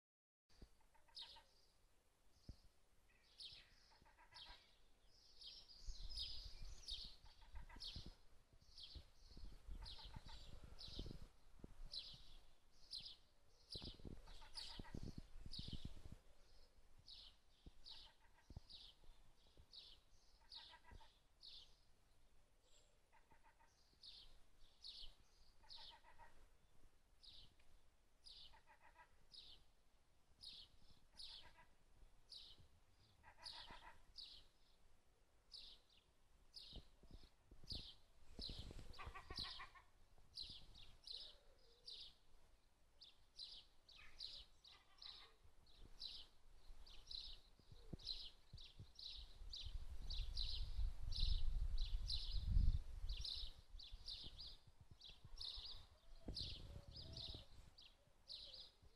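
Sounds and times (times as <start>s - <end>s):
small bird chirping: 0.6s - 1.6s, 2.5s - 11.2s, 11.9s - 21.7s, 22.7s - 26.4s, 30.4s - 31.7s, 32.3s - 34.6s, 36.6s - 42.3s, 43.0s - 58.9s.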